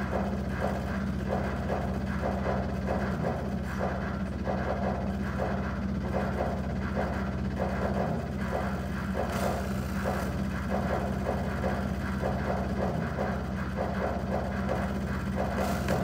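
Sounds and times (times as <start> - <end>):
low buzzing hum: 0.0 - 16.0.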